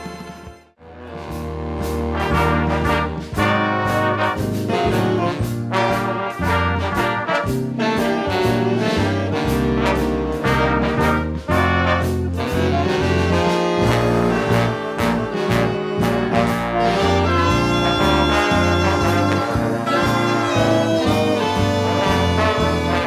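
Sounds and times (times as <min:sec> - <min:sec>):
big band playing swing jazz: 0:00.0 - 0:23.0
brass section: 0:00.0 - 0:23.0.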